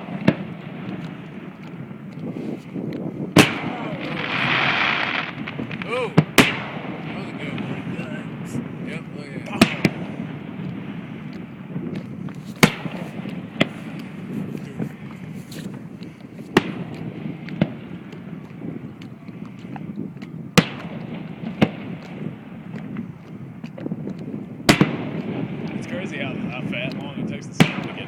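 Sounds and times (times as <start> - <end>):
fireworks bangs: 0.0 - 2.6, 3.2 - 18.9, 20.6 - 23.0, 23.6 - 28.0.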